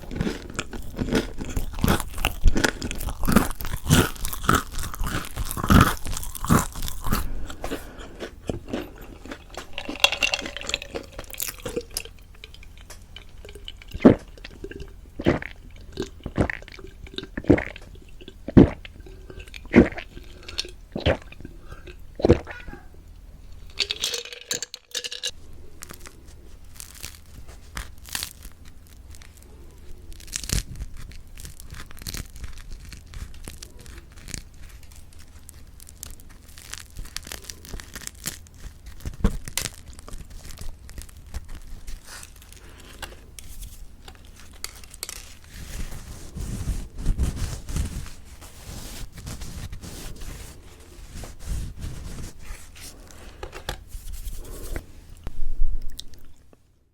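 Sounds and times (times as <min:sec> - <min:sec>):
crispy bread crackling: 0:00.0 - 0:55.2.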